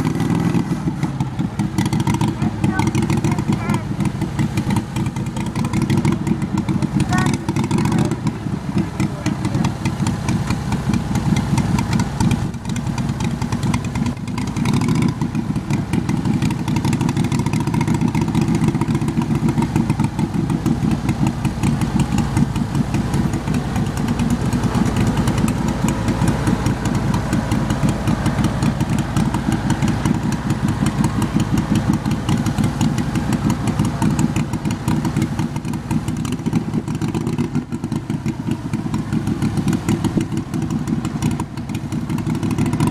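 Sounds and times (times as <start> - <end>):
garden tractor engine running: 0.0 - 42.9.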